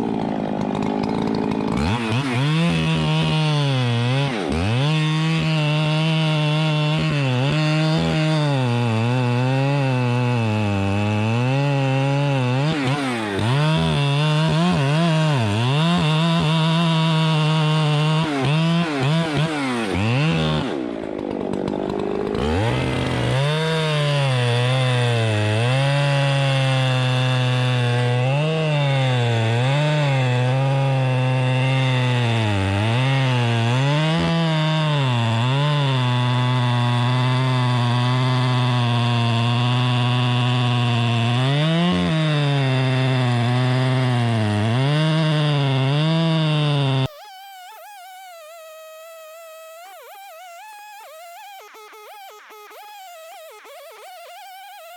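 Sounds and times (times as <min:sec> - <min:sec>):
chainsaw cutting timber: 0:00.0 - 0:54.9.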